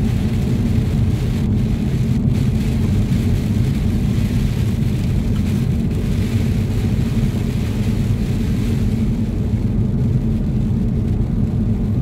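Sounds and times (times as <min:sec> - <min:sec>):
car driving on wet road: 0:00.0 - 0:12.0
rain on windscreen: 0:00.0 - 0:12.0.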